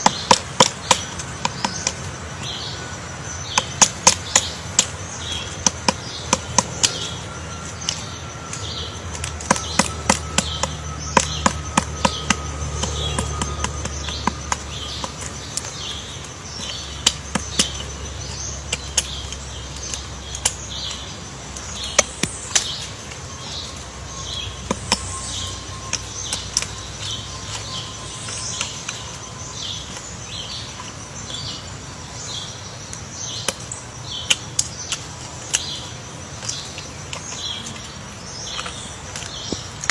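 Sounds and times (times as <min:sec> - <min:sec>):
woodpecker tapping on wood: 0:00.0 - 0:31.4, 0:32.9 - 0:39.9
bird chirping: 0:00.0 - 0:39.9.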